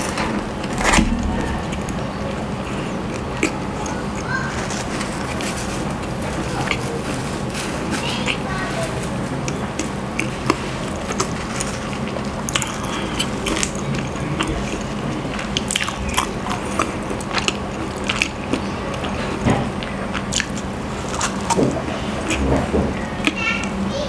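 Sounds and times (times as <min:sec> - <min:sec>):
chewing and biting bread: 0:00.0 - 0:23.9.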